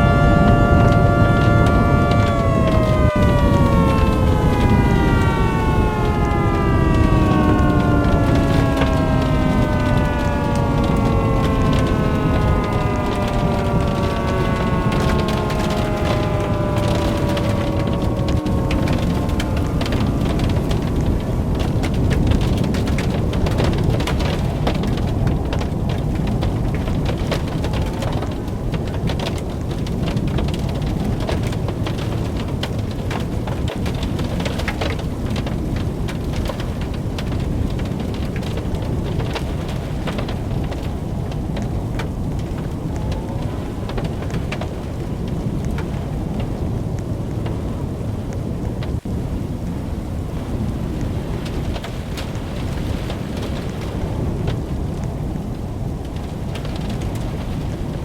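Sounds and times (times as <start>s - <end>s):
small crackling hits: 0.0s - 47.6s
deep storm rumble: 0.0s - 58.0s
rain: 0.0s - 58.0s.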